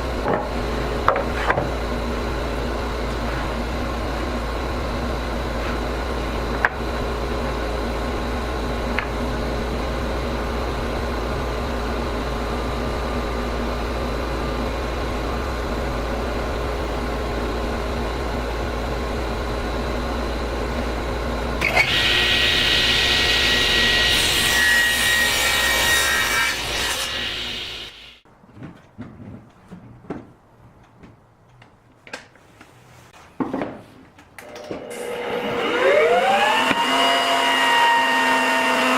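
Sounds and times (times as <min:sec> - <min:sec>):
woodworking power tool cutting wood: 0:00.0 - 0:28.2, 0:34.4 - 0:38.9.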